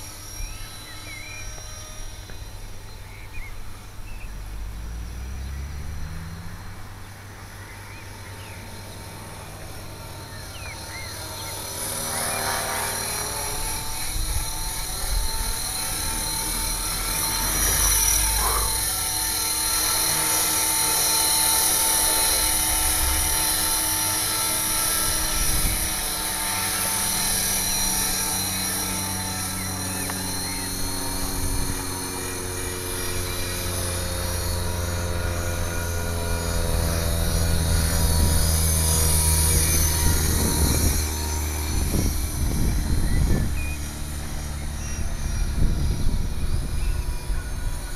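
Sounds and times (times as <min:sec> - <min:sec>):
electric helicopter rotor running: 0:00.0 - 0:47.9.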